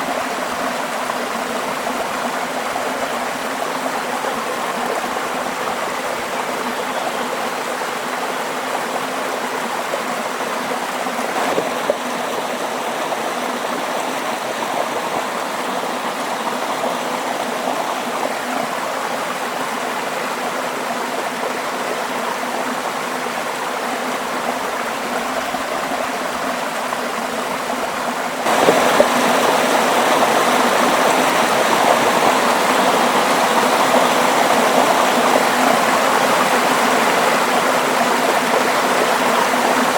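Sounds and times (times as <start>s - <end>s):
stream water rushing and gurgling: 0.0s - 39.9s.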